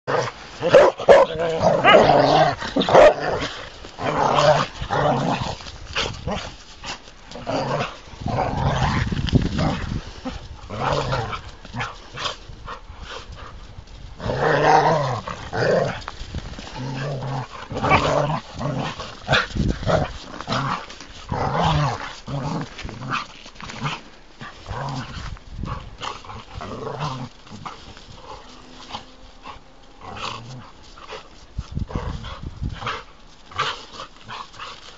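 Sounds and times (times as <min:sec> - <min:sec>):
dogs growling and barking: 0:00.0 - 0:34.9.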